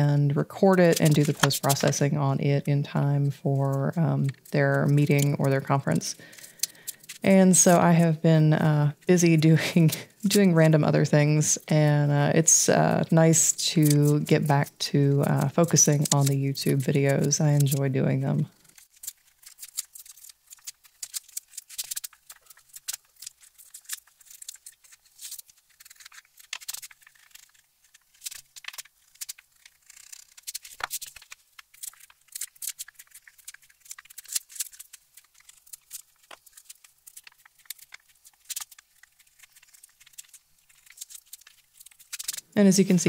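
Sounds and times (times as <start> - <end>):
paper crackling: 0.5 - 8.1, 13.0 - 43.0.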